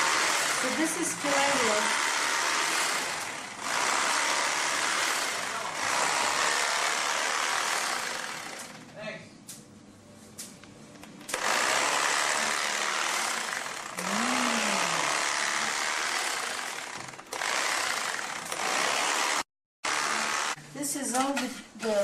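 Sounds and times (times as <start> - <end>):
electric carving knife running: 0.0 - 8.8, 11.3 - 20.6.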